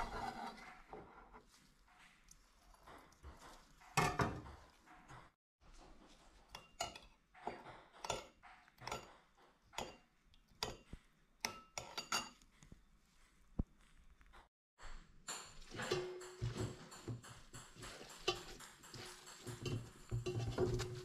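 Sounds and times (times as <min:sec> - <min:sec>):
knife knocking and scraping bowl: 0:00.0 - 0:12.5, 0:15.3 - 0:21.0.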